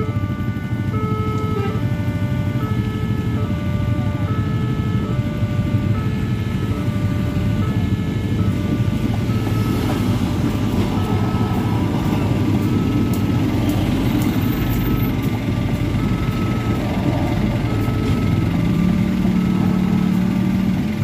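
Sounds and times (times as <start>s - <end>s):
train rumbling: 0.0s - 21.0s
two-tone level crossing alarm: 0.0s - 21.0s.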